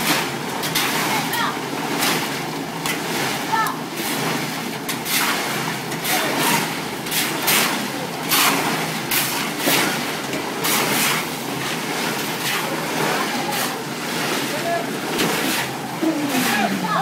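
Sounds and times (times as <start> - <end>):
concrete mixer engine hum: 0.0 - 17.0
wet concrete scraping and slopping: 0.0 - 17.0.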